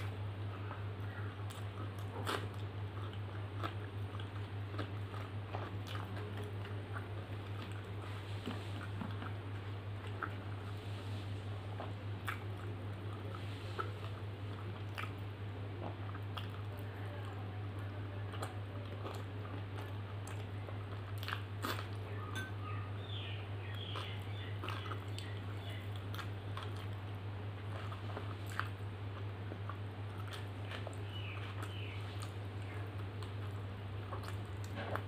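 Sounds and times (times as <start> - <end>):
chewing and mouth sounds: 0.0 - 35.0
steady low hum: 0.0 - 35.0.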